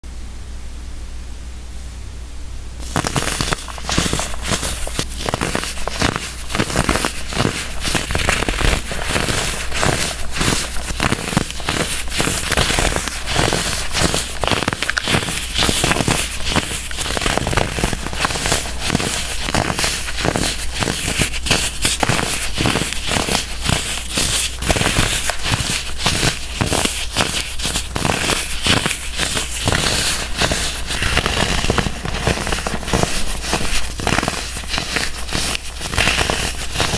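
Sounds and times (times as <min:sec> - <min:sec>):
baking soda blocks crunching: 0:02.8 - 0:36.9.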